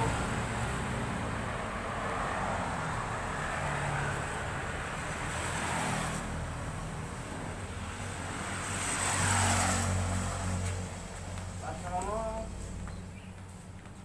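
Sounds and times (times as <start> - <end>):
passing vehicle engine hum: 0.0 - 14.0
road traffic noise: 0.0 - 14.0.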